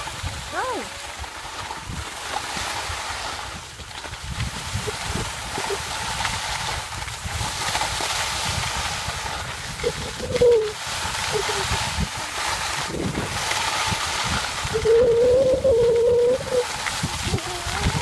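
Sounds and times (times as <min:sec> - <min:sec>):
skis sliding over snow: 0:00.0 - 0:18.0
wind buffeting microphone: 0:00.0 - 0:18.0.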